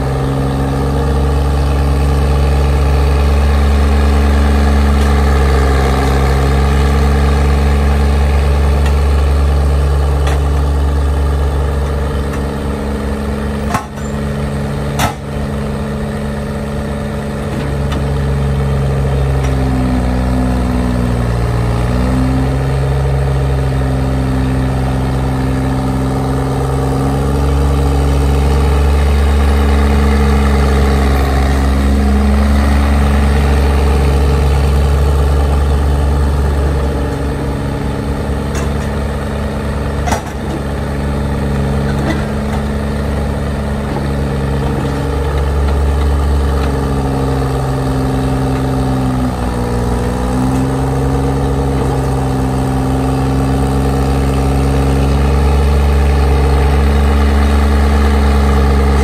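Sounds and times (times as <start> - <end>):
heavy machine engine running: 0.0 - 59.0.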